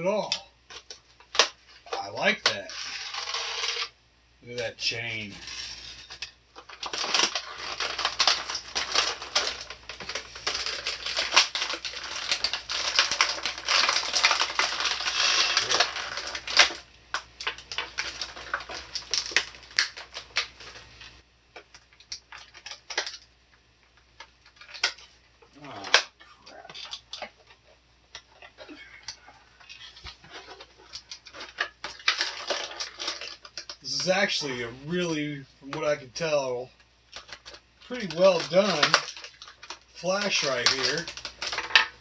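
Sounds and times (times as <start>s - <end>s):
plastic packaging crinkling: 5.3s - 23.3s, 23.9s - 35.0s, 37.1s - 42.0s.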